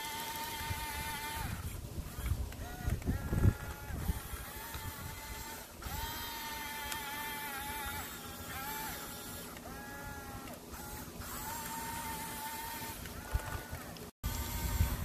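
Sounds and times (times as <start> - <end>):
toy bulldozer motors whining: 0.0 - 15.0.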